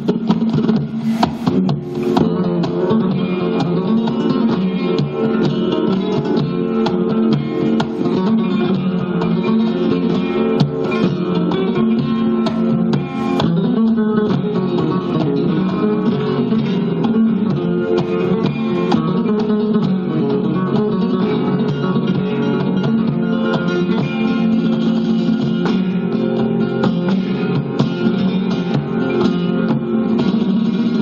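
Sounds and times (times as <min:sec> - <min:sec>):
flamenco guitar playing: 0:00.0 - 0:31.0.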